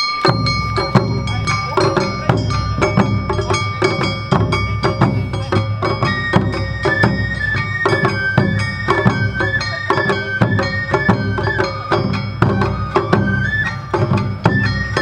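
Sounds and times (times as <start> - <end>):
ringing metal gong: 0.0 - 13.1
bamboo flute: 0.0 - 15.0
taiko drums: 0.0 - 15.0.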